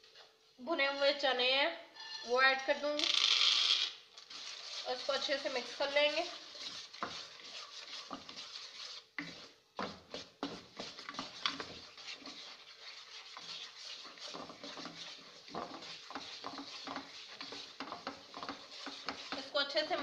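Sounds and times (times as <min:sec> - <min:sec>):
spatula scraping in pan: 0:03.6 - 0:20.0.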